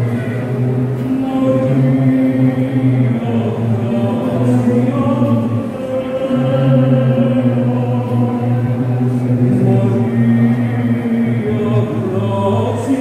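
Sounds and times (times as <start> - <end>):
choir singing slowly: 0.0 - 13.0.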